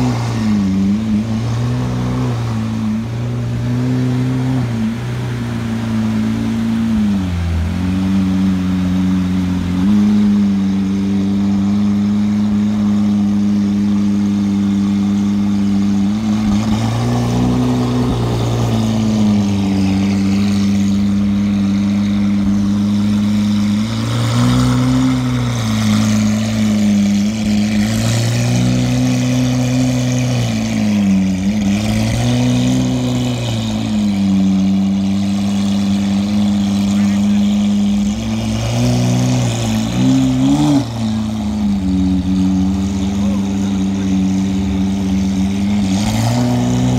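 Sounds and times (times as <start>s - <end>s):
car engine idling: 0.0s - 46.9s
engine throttle blips: 0.0s - 46.9s.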